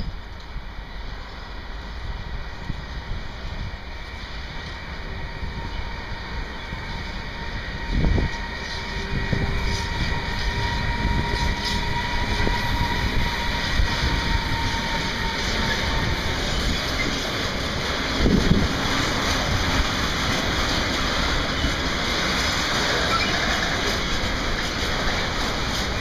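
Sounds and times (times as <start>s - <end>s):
freight train rumble: 0.0s - 26.0s.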